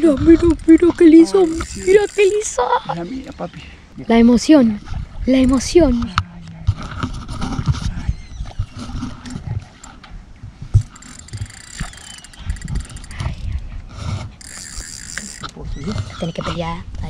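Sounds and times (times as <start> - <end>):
wind buffeting microphone: 0.0 - 3.2, 3.8 - 17.0.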